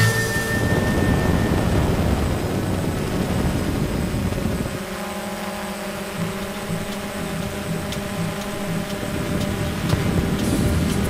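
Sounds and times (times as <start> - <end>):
drone propellers whining: 0.0 - 11.0
rushing noise: 0.0 - 11.0.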